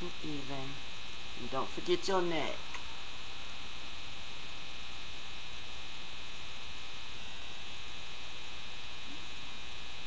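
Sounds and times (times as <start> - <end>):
electrical hum with buzzing whine: 0.0 - 10.0.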